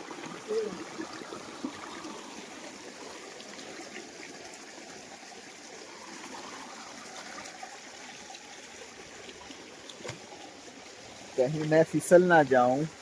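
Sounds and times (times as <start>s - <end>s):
stream trickling and splashing: 0.0s - 13.0s.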